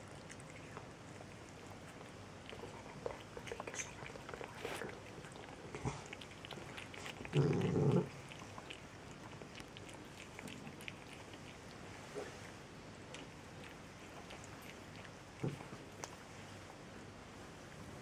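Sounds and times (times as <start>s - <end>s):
cats lapping milk: 0.0s - 16.3s.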